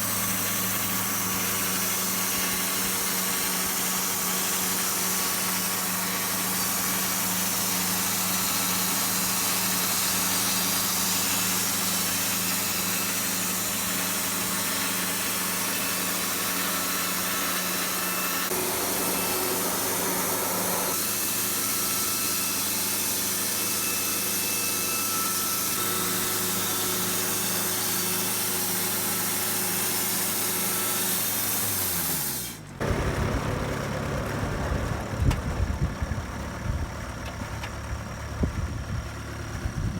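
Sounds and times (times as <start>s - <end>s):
band blade sawing through board: 0.0s - 32.7s
sawmill engine humming: 0.0s - 39.9s.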